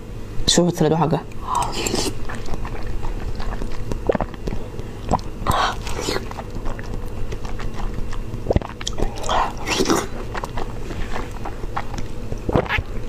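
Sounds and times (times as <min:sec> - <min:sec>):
soft chewing: 0:01.3 - 0:13.0.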